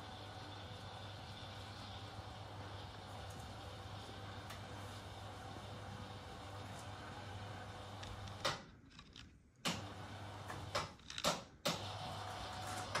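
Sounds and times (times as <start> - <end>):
blind motor hum: 0.0 - 13.0.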